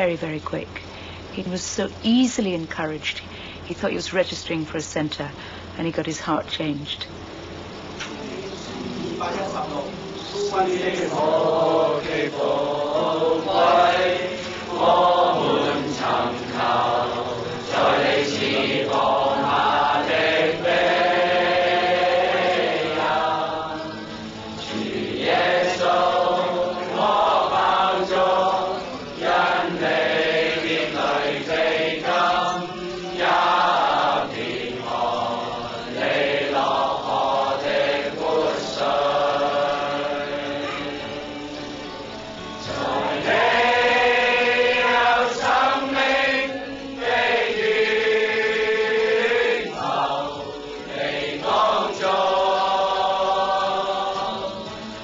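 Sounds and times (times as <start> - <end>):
men singing together: 7.8 - 55.0.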